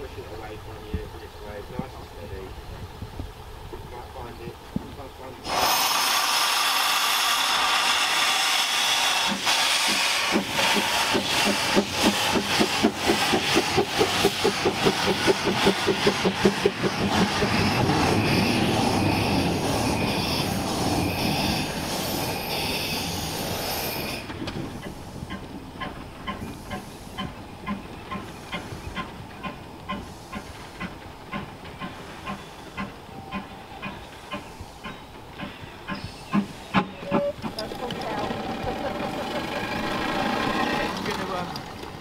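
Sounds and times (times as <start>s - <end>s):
steam locomotive exhaust beats: 4.7s - 42.0s
loud steam hiss: 5.2s - 25.4s, 26.3s - 37.4s, 38.2s - 41.5s.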